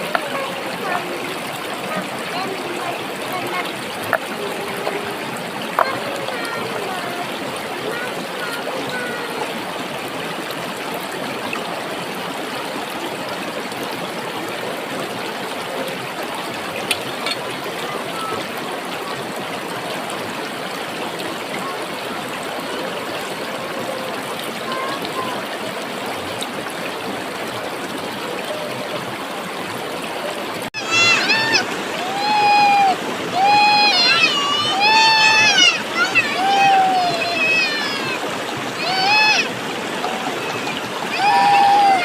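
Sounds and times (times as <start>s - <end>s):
flowing stream water: 0.0s - 42.0s.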